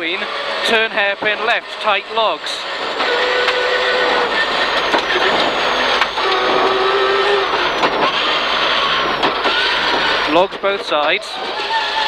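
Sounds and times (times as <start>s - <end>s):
rally car engine: 0.0s - 12.0s
tyres on gravel: 0.6s - 12.0s.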